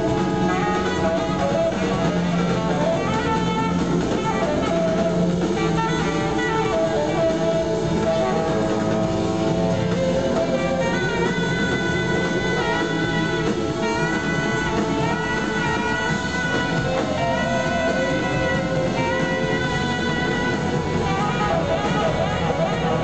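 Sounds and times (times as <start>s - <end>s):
drum kit: 0.0s - 23.0s
electric guitar: 0.0s - 23.0s
live band playing: 0.0s - 23.0s
saxophone: 0.0s - 23.0s
trombone: 0.0s - 23.0s
trumpet: 0.0s - 23.0s.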